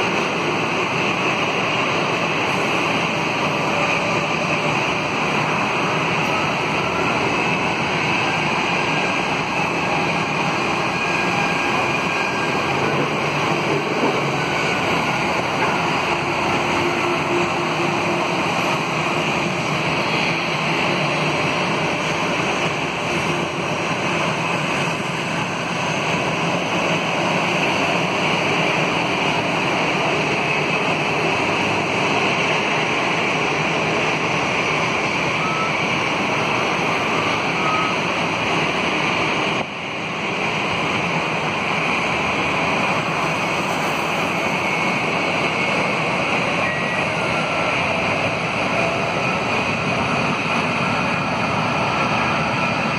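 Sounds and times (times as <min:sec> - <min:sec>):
jet engines rushing: 0:00.0 - 0:52.9.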